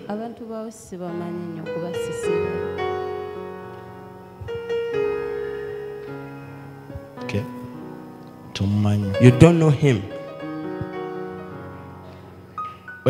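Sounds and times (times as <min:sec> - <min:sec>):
electronic keyboard playing chords: 0:01.0 - 0:13.0.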